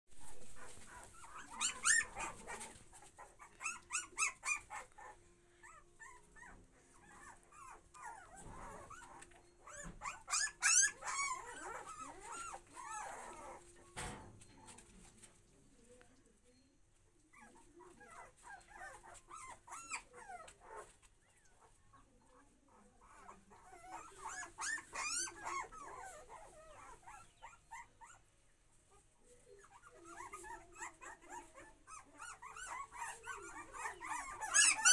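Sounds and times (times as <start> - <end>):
puppies whining and squealing: 0.2 - 15.2, 17.3 - 28.3, 28.9 - 34.9.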